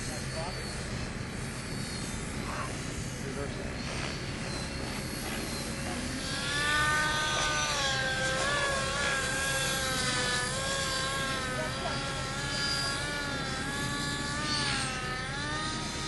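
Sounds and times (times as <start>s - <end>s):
rc helicopter rotor whine: 0.0s - 16.0s.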